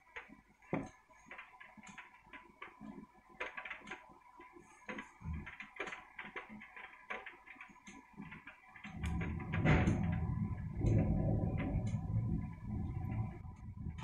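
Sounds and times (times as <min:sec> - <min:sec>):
raindrops tapping on hard surface: 0:00.0 - 0:14.0.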